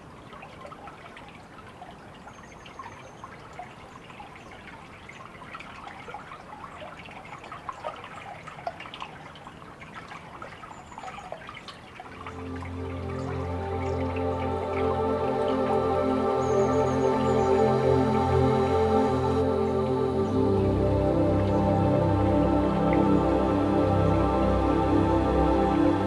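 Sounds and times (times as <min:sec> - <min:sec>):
water trickling and dripping: 0:00.0 - 0:26.0.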